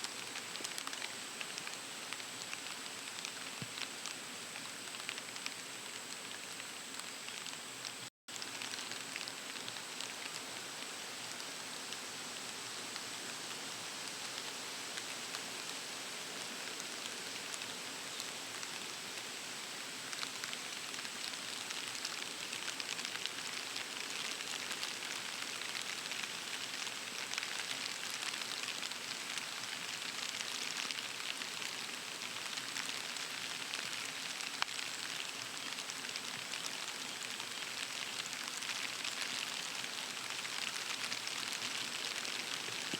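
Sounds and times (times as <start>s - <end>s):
steady rain pattering: 0.0s - 42.9s.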